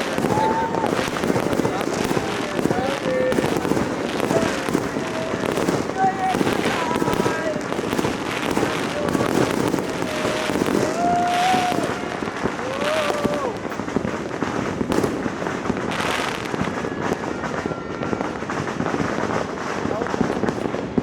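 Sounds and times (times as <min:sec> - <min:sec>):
fireworks and firecrackers bangs: 0:00.0 - 0:21.0.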